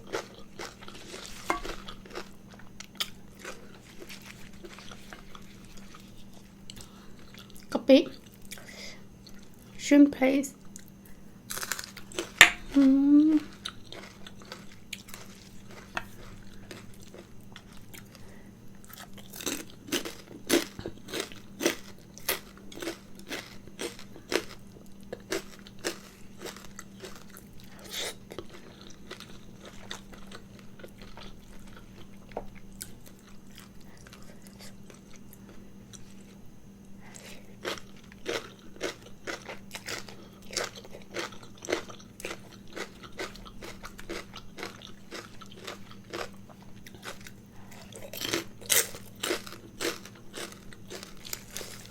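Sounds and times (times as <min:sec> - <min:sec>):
crunching food: 0:00.0 - 0:09.8, 0:10.6 - 0:51.9
person chewing noodles: 0:00.0 - 0:09.8, 0:10.7 - 0:51.9.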